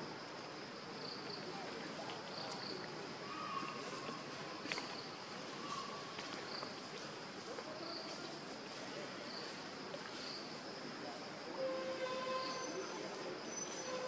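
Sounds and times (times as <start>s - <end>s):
faint outdoor hiss: 0.0s - 14.0s
insects droning: 0.0s - 14.0s.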